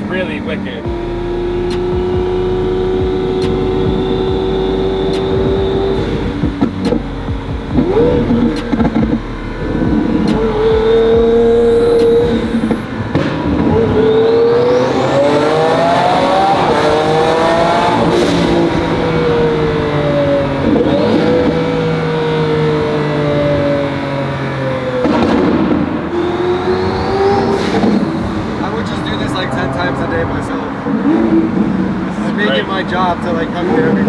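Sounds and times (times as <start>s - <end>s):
sports car accelerating hard: 0.0s - 34.0s.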